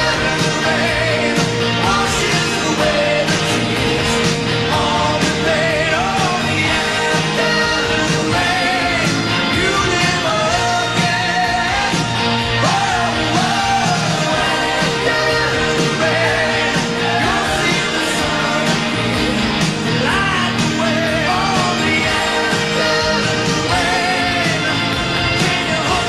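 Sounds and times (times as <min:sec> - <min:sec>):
hard rock song with vocals: 0:00.0 - 0:26.0.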